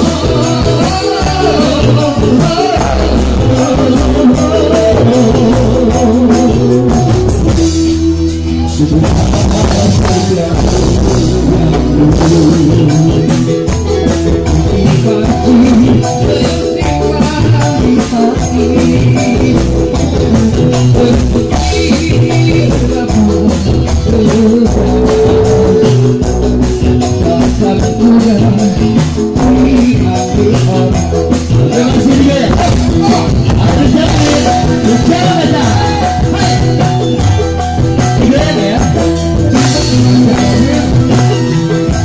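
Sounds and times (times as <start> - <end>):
live band with singing: 0.0 - 42.0.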